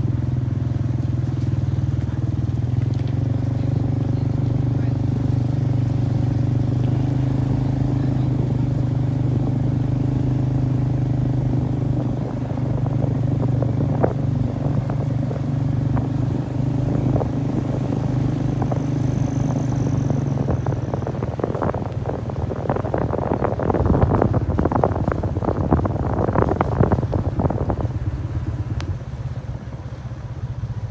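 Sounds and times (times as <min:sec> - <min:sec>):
motorbike engine running: 0:00.0 - 0:30.9.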